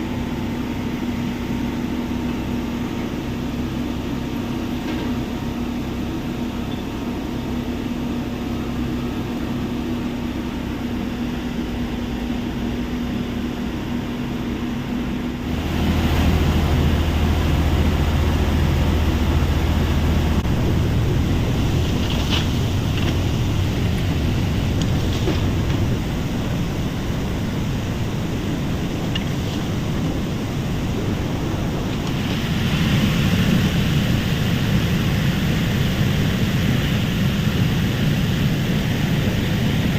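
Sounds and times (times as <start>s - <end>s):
heavy crushing machinery drone: 0.0s - 39.9s.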